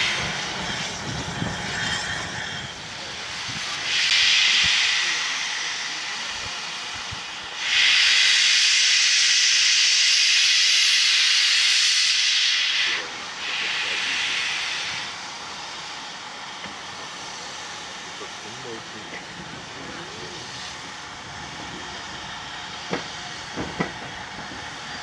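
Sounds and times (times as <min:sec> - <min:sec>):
steam locomotive hissing blasts: 0:00.0 - 0:25.0.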